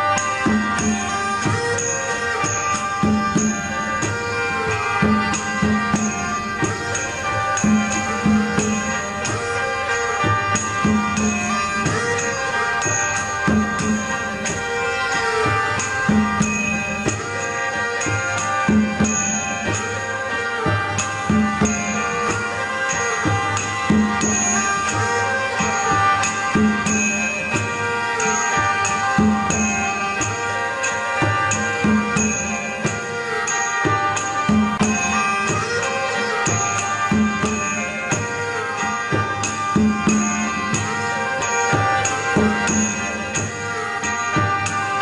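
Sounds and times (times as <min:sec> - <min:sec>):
instrumental music with percussion beat: 0:00.0 - 0:45.0.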